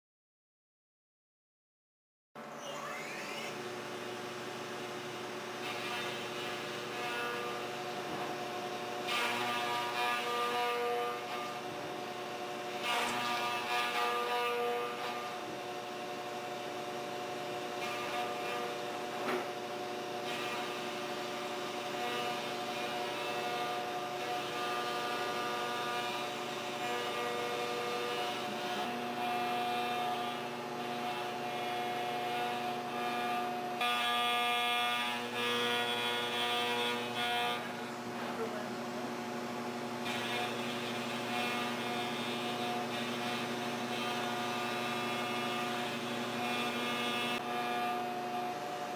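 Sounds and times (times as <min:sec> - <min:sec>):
milling machine whine: 0:02.4 - 0:48.9.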